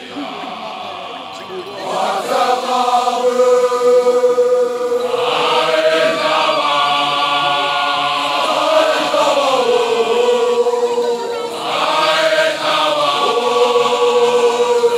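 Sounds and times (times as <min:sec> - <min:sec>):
men chanting together: 0:00.0 - 0:14.9.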